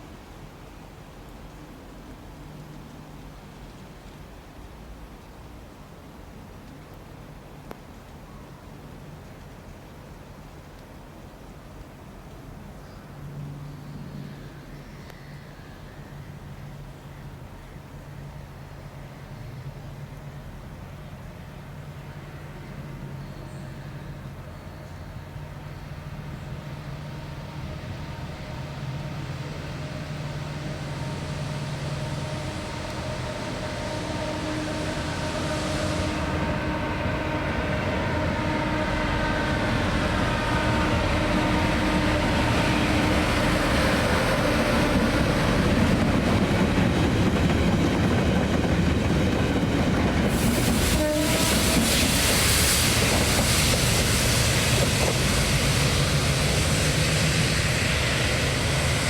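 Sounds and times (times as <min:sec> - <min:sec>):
train passing with whine: 0:00.0 - 0:59.0
wheel and rail noise: 0:00.0 - 0:59.0.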